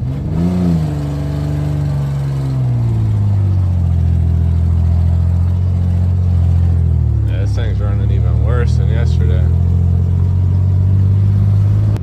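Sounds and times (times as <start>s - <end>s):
rough truck engine with leaky exhaust: 0.0s - 12.0s.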